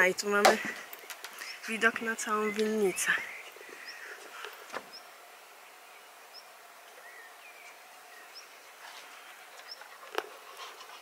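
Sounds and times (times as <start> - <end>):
steady background hiss: 0.0 - 11.0
small bird chirping: 1.0 - 10.8.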